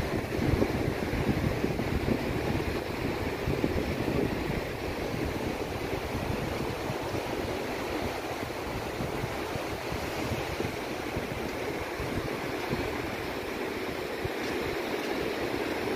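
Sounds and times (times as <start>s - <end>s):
ocean surf washing ashore: 0.0s - 15.9s
wind rumbling on microphone: 0.0s - 15.9s.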